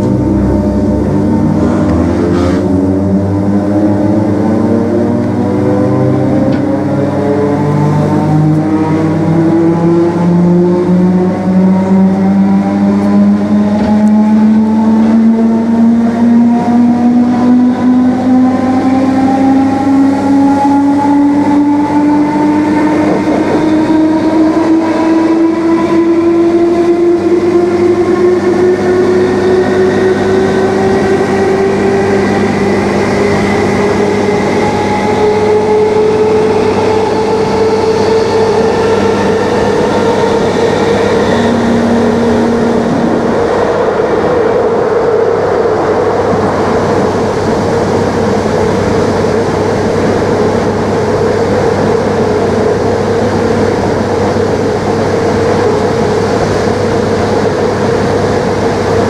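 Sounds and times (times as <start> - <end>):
train rumbling on track: 0.0 - 59.0
train traction motors whining: 0.0 - 59.0.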